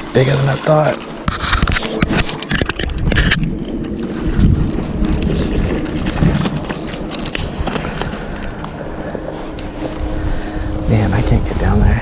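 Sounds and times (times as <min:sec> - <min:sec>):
wind buffeting microphone: 0:01.2 - 0:12.0.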